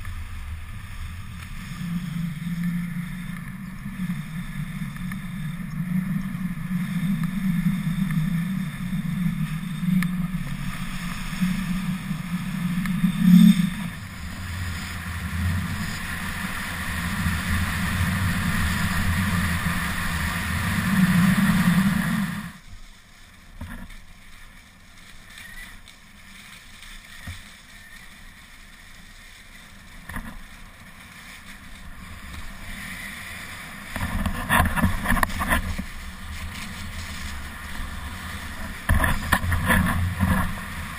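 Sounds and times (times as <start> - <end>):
wind rushing over microphone: 0.0 - 22.8, 27.0 - 40.9
skis hissing over snow: 0.0 - 40.9.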